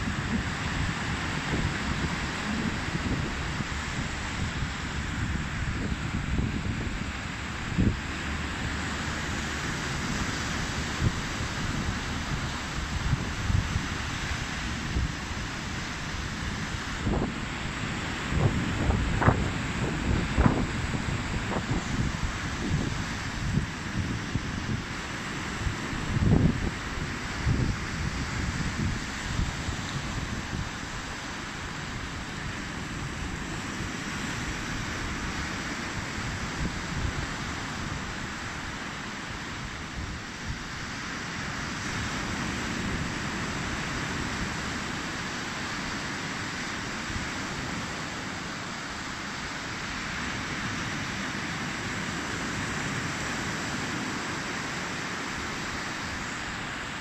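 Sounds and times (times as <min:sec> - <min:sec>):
waves breaking on beach: 0:00.0 - 0:57.0
wind on microphone: 0:00.0 - 0:57.0.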